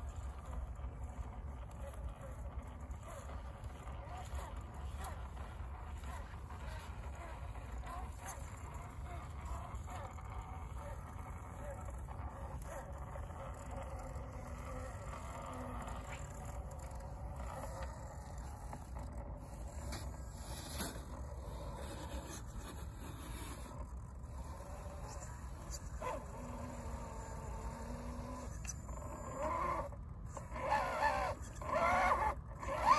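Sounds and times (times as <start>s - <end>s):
electric motor whine: 0.0s - 32.9s
low background rumble: 0.0s - 32.9s.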